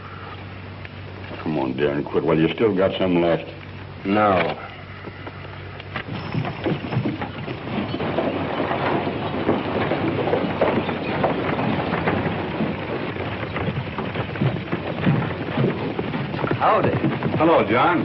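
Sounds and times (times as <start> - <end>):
horses galloping on dirt: 0.0 - 18.0.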